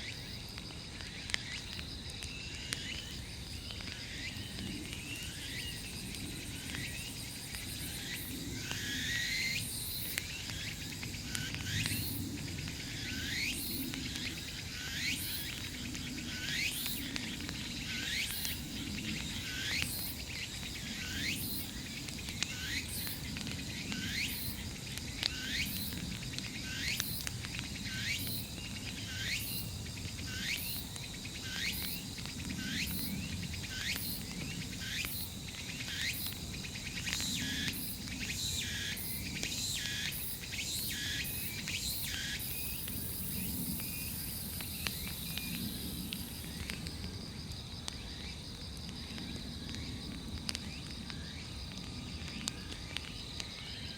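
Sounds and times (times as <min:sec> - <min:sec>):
bonfire crackling: 0:00.0 - 0:53.9
high insect trill: 0:01.1 - 0:53.9.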